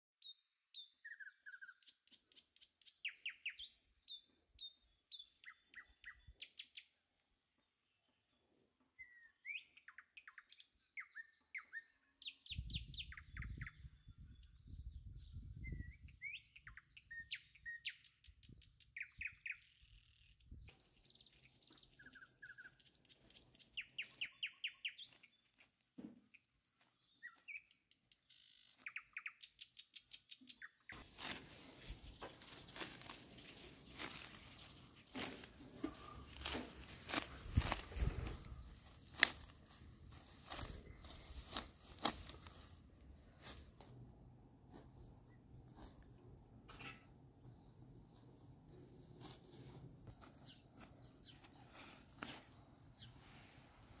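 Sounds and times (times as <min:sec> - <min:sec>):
songbirds singing and calling: 0:00.2 - 0:44.5, 0:50.1 - 0:54.0.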